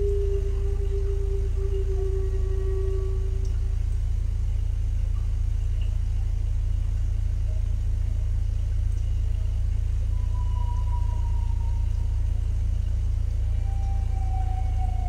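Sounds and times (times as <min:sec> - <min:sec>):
deep rumbling drone: 0:00.0 - 0:15.0.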